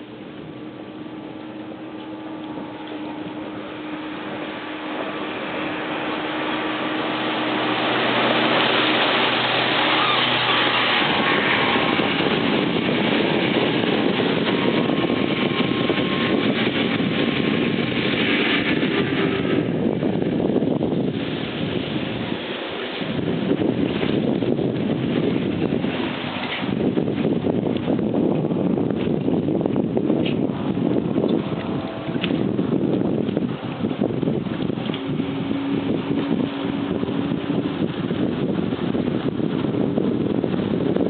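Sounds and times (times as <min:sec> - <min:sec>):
motorboat engine hum: 0:00.0 - 0:41.0
rushing water: 0:00.0 - 0:41.0
rushing wind: 0:00.0 - 0:41.0.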